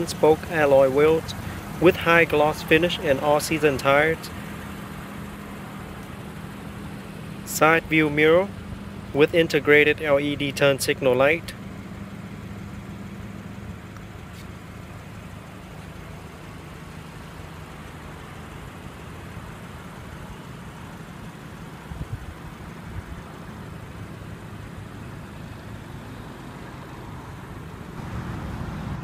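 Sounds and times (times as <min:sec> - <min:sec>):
motor vehicle rumble: 0:00.0 - 0:29.0.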